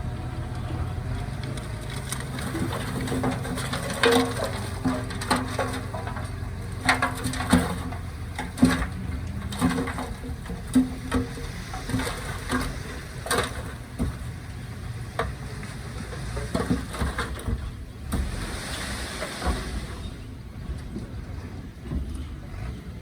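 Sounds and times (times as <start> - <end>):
machinery knocks and clanks: 0.0 - 18.5, 19.4 - 23.0
diesel engine rumble: 0.0 - 23.0.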